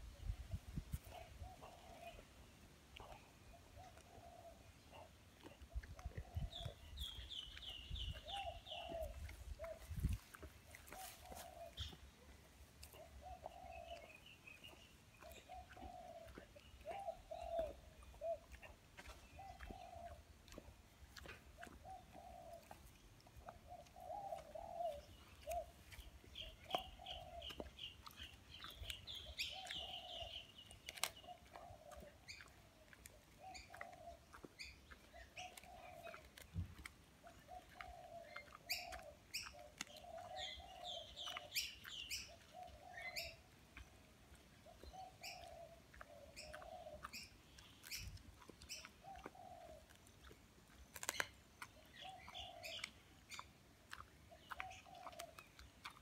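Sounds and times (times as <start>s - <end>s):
dog gnawing a bone: 5.0s - 56.0s.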